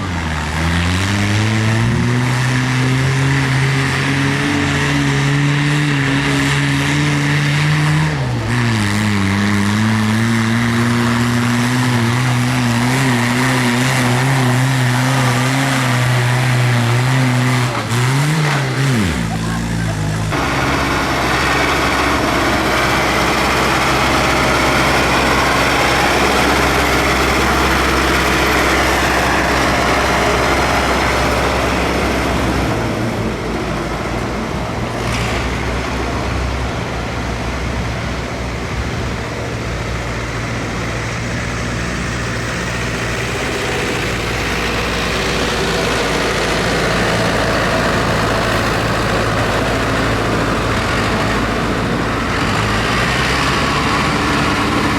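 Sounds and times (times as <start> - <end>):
tractor engines droning: 0.0 - 54.9.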